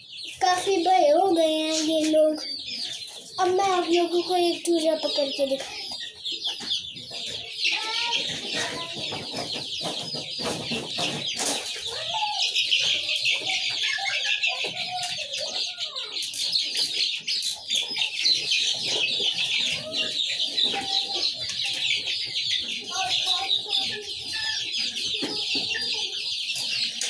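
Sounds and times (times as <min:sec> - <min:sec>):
chickens squawking and clucking: 0:00.0 - 0:27.0
chicks peeping: 0:00.0 - 0:27.0.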